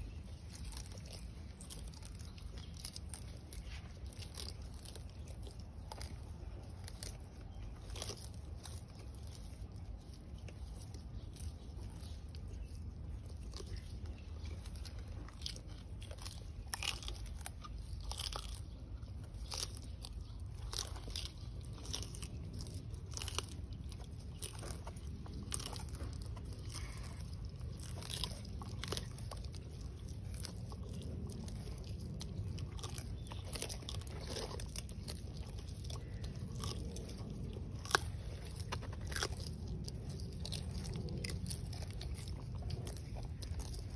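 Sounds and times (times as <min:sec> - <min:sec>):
low steady hum: 0:00.0 - 0:43.9
tortoises crunching grass: 0:00.0 - 0:43.9.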